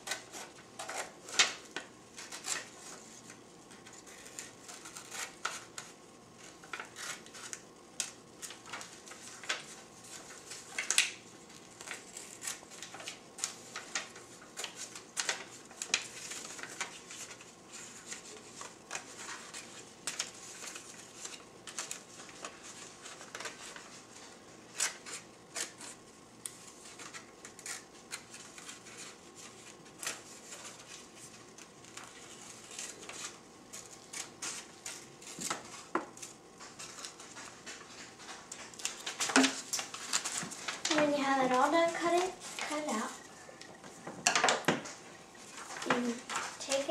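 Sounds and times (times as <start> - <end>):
scissors snipping paper: 0.0 - 23.8, 24.7 - 43.2
paper rustling: 0.1 - 46.9.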